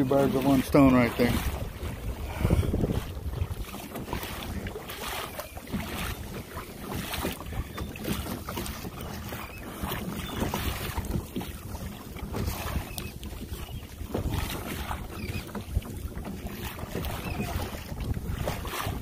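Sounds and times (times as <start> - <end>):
water washing against kayak: 0.0 - 19.0
wind buffeting microphone: 0.0 - 19.0.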